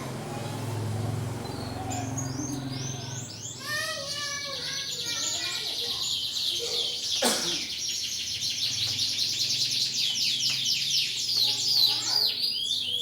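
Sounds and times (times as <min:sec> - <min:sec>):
canaries chirping and singing: 0:00.0 - 0:13.0.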